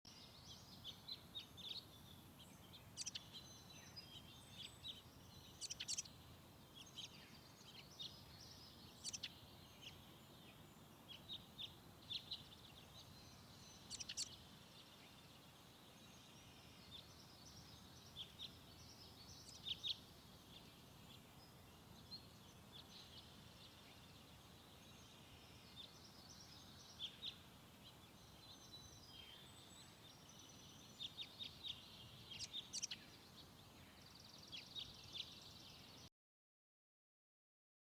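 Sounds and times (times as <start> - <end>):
low steady hiss: 0.1 - 36.1
small birds chirping: 0.1 - 36.1.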